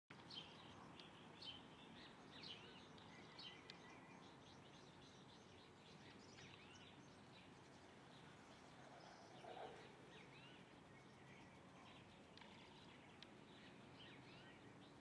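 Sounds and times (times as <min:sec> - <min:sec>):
low background noise: 0:00.1 - 0:15.0
faint bird chirps: 0:00.4 - 0:15.0.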